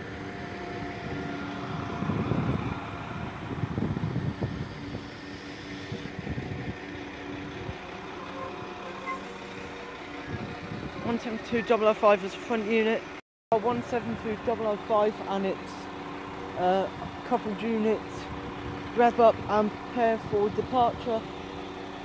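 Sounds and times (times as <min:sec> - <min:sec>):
diesel engines humming: 0:00.0 - 0:22.0
wheel and rail rumble: 0:00.0 - 0:22.0.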